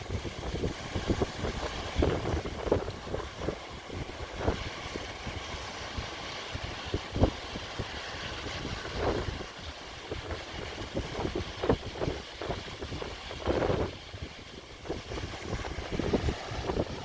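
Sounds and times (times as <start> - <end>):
wind gusts buffeting microphone: 0.0 - 17.0.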